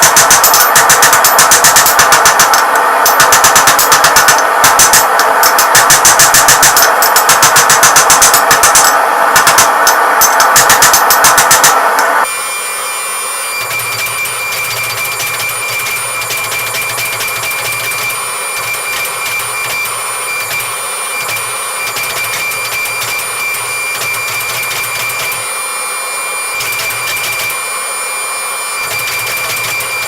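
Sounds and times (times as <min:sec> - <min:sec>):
machine running with high whine: 0:00.0 - 0:30.0.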